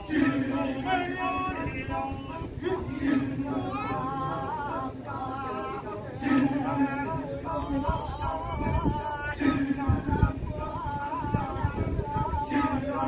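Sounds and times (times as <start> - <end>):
unaccompanied voices chanting: 0.0 - 13.0.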